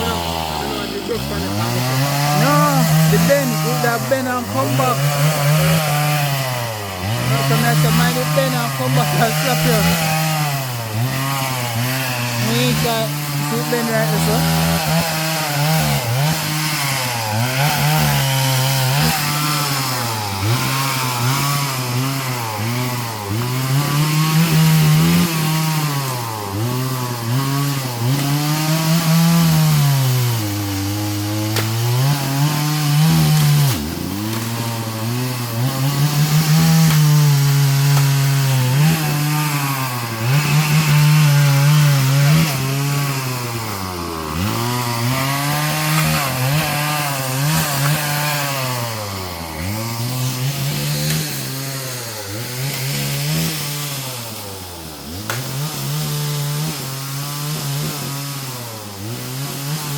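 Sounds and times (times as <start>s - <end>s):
chainsaw cutting tree limbs: 0.0s - 59.9s.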